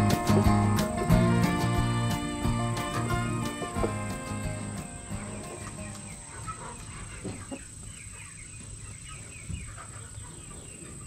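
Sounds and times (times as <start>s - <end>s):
chickens clucking: 0.0s - 11.0s
high chick peeps: 0.0s - 11.0s.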